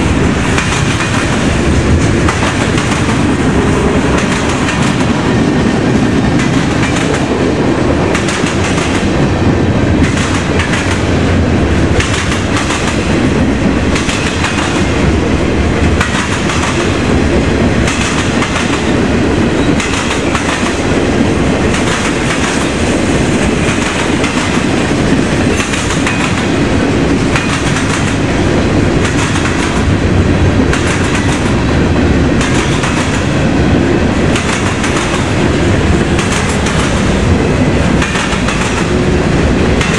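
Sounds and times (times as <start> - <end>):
steady train rumble: 0.0 - 39.9
train wheels clattering over crossing: 0.0 - 39.9.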